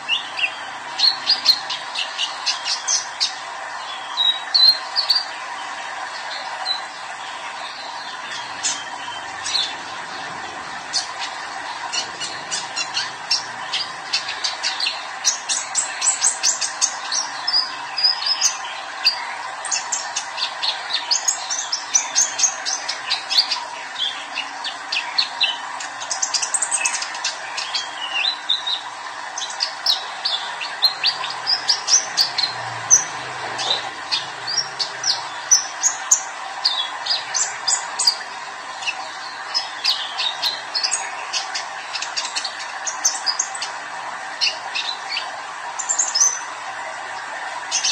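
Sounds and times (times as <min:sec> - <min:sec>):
bird singing high chirps and trills: 0:00.0 - 0:43.8.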